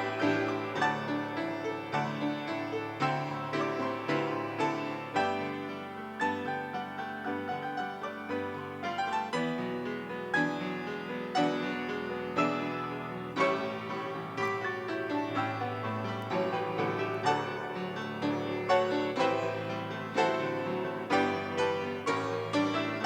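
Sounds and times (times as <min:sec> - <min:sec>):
piano playing: 0:00.0 - 0:23.0.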